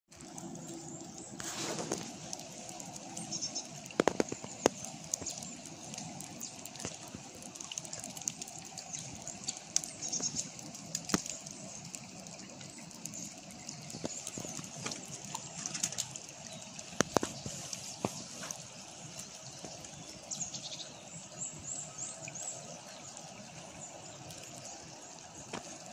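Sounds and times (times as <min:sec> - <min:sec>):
brook running: 0:00.1 - 0:25.9
songbirds singing faintly: 0:00.2 - 0:25.9.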